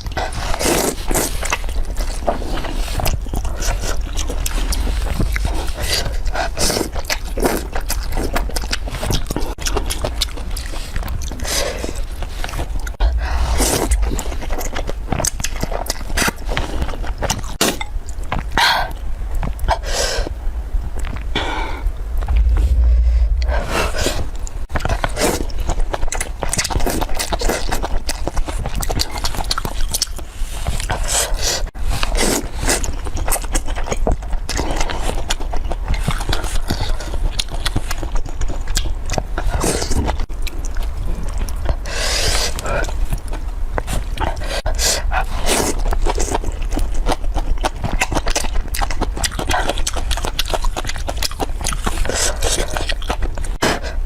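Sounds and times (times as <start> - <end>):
chewing with mouth clicks: 0.0 - 20.3, 24.5 - 54.0.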